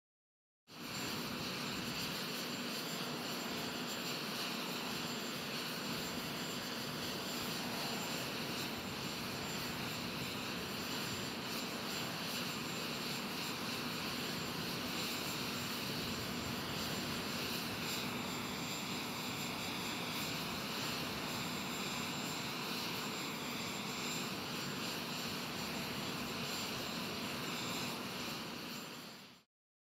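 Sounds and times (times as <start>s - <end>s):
jet turbine noise: 0.7s - 29.5s.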